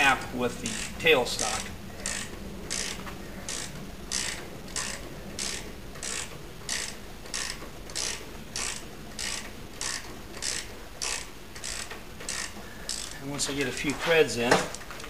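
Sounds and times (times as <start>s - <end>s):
socket ratchet clicking: 0.7s - 13.2s.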